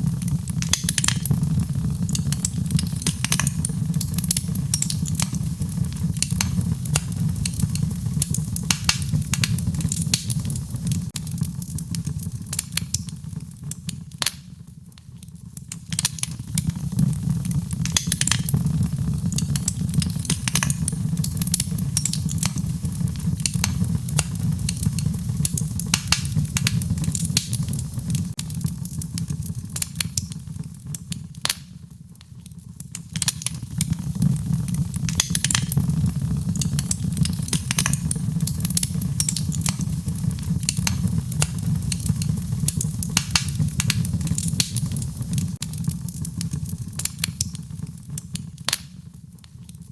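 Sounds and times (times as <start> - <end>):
fire burning in fireplace: 0.0 - 49.9
fire crackling and popping: 0.0 - 49.9.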